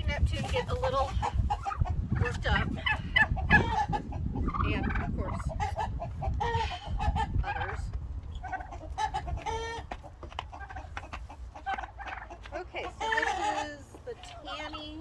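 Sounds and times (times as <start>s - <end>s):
turkeys calling and clucking: 0.2s - 15.0s.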